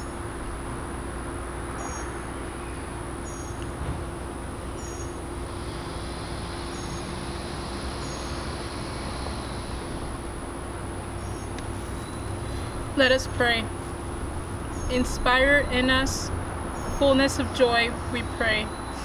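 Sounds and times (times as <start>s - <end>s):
background hiss and hum: 0.0s - 19.0s.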